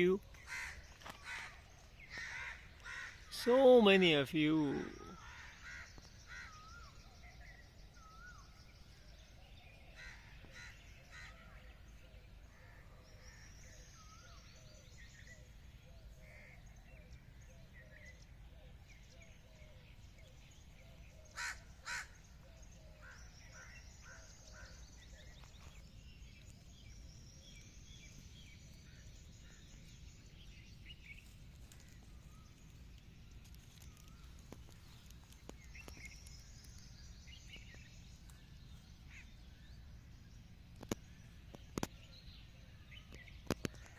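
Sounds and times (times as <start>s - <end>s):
birds chirping and calling: 0.0s - 43.9s.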